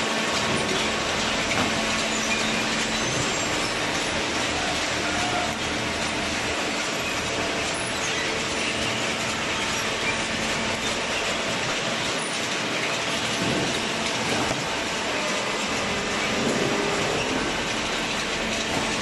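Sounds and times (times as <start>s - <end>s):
chain conveyor running: 0.0s - 19.0s.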